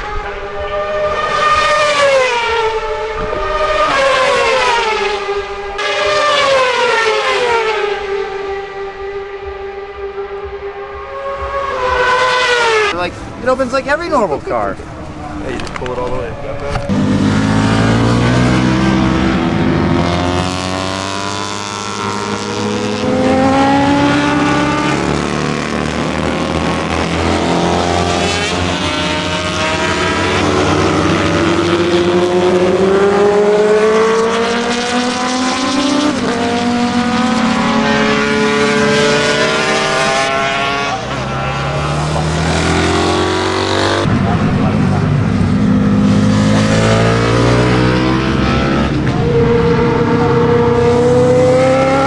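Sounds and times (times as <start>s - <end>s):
racing motorcycles passing at full throttle: 0.0s - 52.0s.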